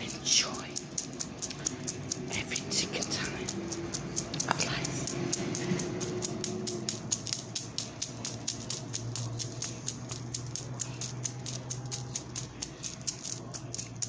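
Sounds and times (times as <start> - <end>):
clock ticking: 0.0 - 14.0.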